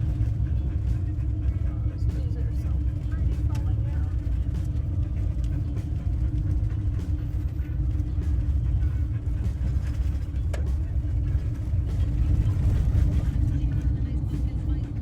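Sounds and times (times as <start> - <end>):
van engine and tyres rumbling: 0.0 - 15.0.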